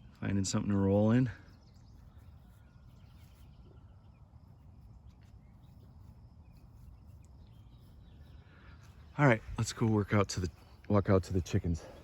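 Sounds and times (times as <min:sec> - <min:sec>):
faint bird chirps: 0:00.0 - 0:12.0
low rumble of wind: 0:00.0 - 0:12.0.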